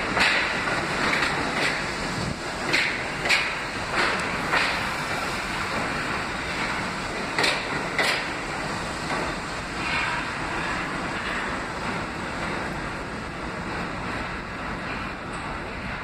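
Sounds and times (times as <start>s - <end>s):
subway train wheels rumbling: 0.0s - 16.0s
wheel clacks over rail joints: 0.0s - 16.0s.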